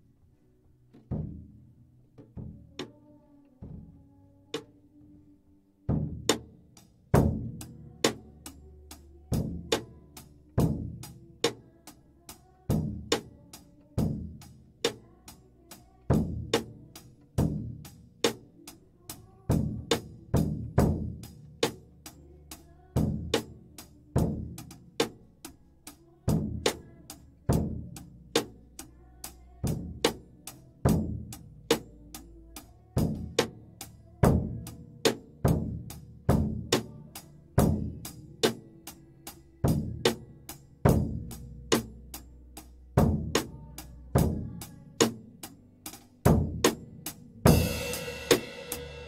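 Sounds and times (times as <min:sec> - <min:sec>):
drum kit playing a beat: 0:00.9 - 0:01.6, 0:05.9 - 0:49.0.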